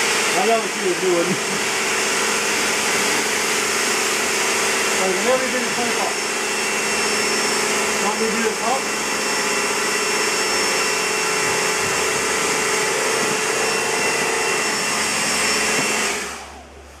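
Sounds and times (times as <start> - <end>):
water jet hissing: 0.0 - 16.4
pressure washer motor hum: 0.0 - 17.0.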